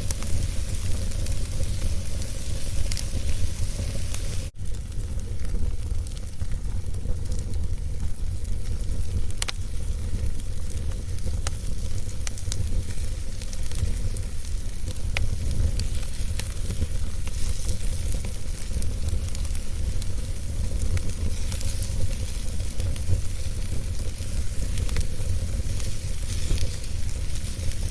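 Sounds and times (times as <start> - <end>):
fire crackles and pops: 0.0 - 27.9
fire rumbling and hissing: 0.0 - 27.9.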